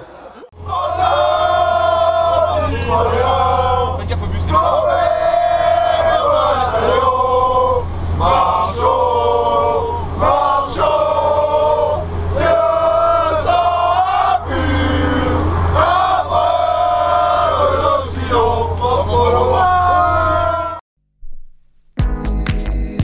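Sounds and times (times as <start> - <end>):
low bus engine hum: 0.0 - 20.8
group of men chanting: 0.6 - 20.8.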